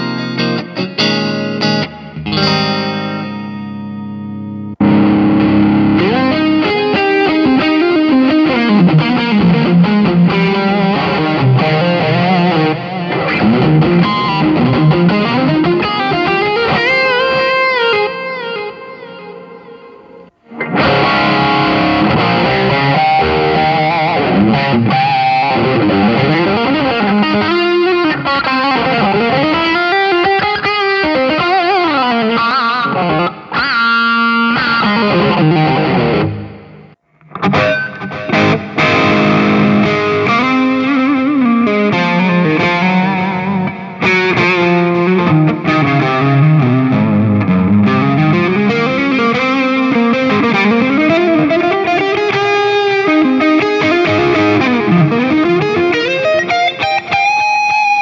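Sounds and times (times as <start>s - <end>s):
distorted electric guitar lead: 0.0s - 58.0s.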